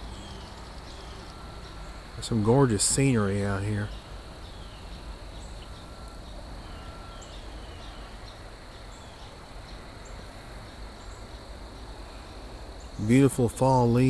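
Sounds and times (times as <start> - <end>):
high insect trill: 0.0 - 14.0.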